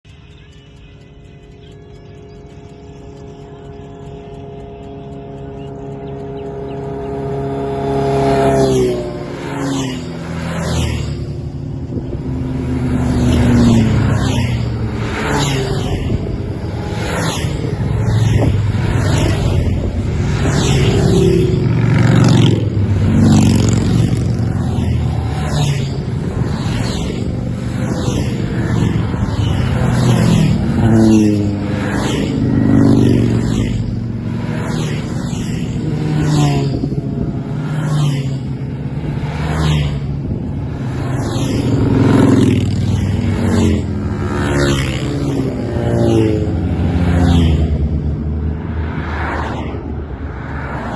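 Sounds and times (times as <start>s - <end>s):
vehicles passing by: 0.0s - 50.9s.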